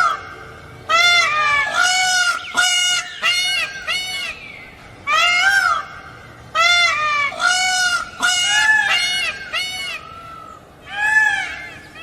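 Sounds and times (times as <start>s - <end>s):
peafowl calling: 0.0s - 12.0s.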